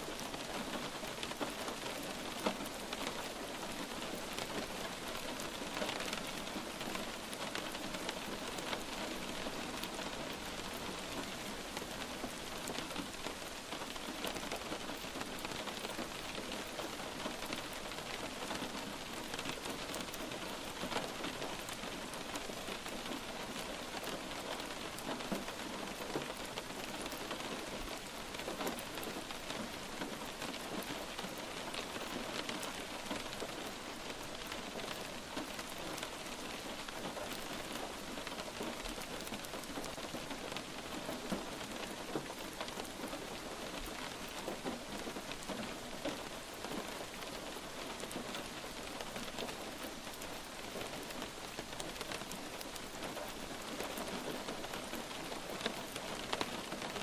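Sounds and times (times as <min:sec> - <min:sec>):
light rain hissing: 0:00.0 - 0:57.0
raindrops ticking: 0:00.1 - 0:57.0.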